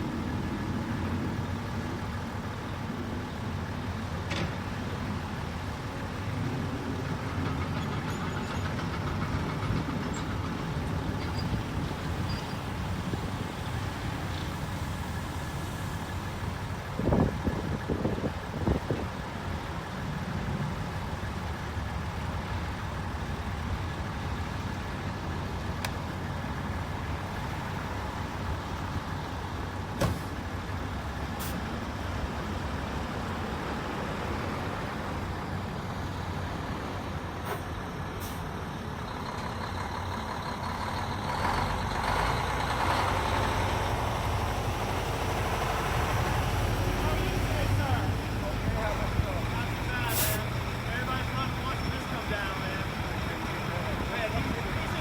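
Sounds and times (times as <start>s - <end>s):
construction machine engine running: 0.0s - 55.0s.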